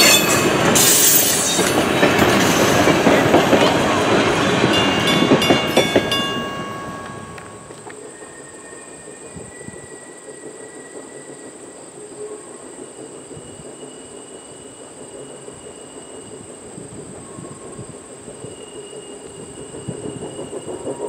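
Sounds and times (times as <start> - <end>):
distant steam train rumble: 0.0 - 21.0.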